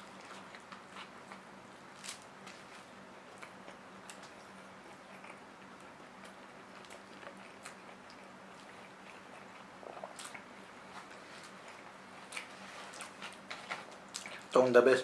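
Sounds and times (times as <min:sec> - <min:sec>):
person chewing with wet smacks: 0:00.0 - 0:01.5, 0:03.3 - 0:14.6
faint steady hum: 0:00.0 - 0:15.0.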